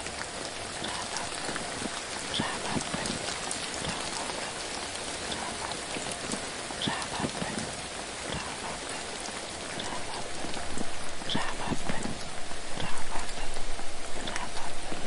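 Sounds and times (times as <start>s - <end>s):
raindrop ticks: 0.0s - 15.0s
steady rain hiss: 0.0s - 15.0s.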